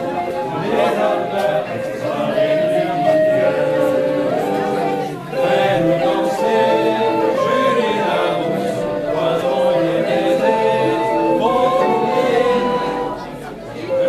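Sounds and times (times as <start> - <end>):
group of people singing: 0.0 - 14.0.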